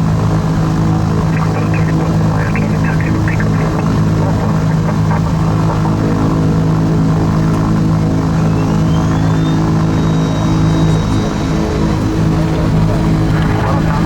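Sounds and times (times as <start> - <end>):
propeller engines droning: 0.0 - 14.0
faint high whine: 0.7 - 14.0.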